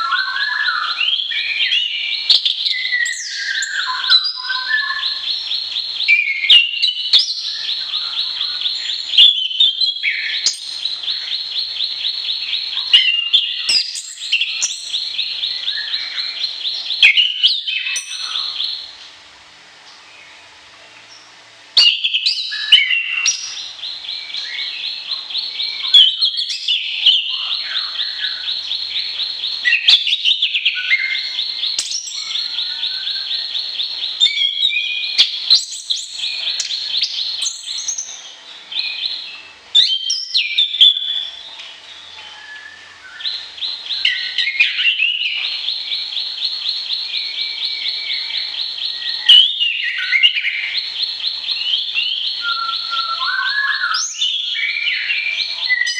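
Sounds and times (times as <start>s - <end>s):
songbird singing trills: 0.0s - 19.2s, 19.9s - 55.9s.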